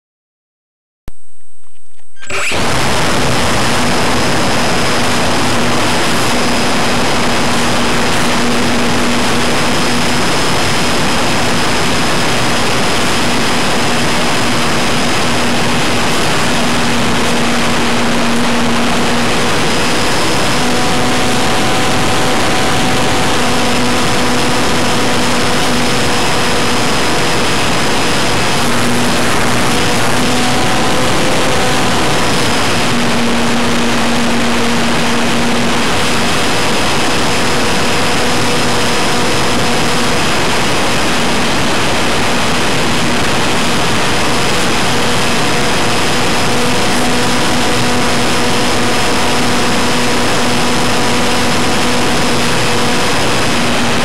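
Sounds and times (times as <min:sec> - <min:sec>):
model plane motor buzzing: 0:02.2 - 0:54.0
rushing air: 0:02.2 - 0:54.0.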